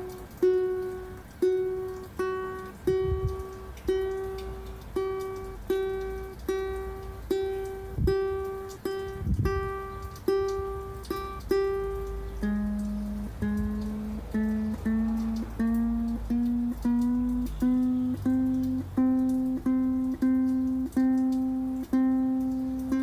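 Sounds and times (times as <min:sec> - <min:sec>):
ukulele string plucked: 0:00.0 - 0:23.0.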